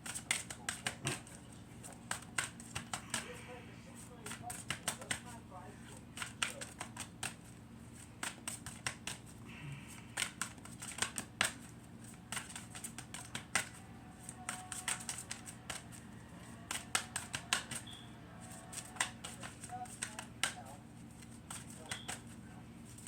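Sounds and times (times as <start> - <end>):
cards being shuffled: 0.0 - 23.0.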